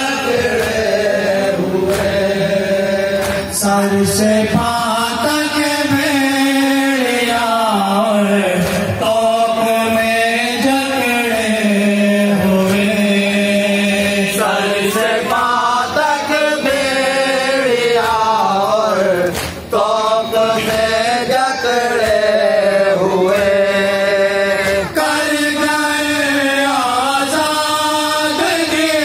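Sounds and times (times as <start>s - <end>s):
man chanting into a microphone: 0.0s - 29.0s.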